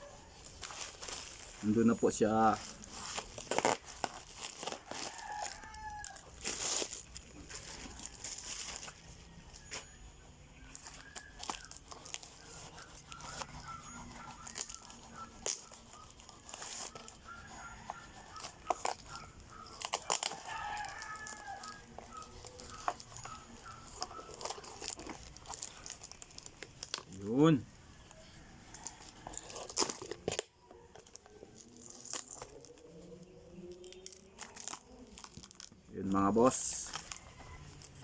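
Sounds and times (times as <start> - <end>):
plastic packaging crinkling and tearing: 0.0 - 38.0.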